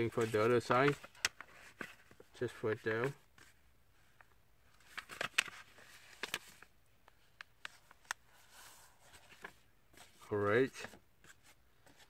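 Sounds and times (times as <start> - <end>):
paper crinkling and crackling: 0.0 - 3.6, 4.7 - 12.0.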